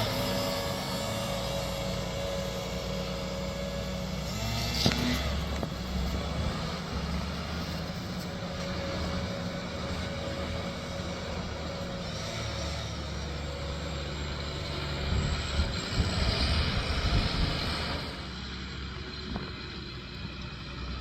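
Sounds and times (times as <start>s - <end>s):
farm vehicle engine running: 0.0s - 21.0s.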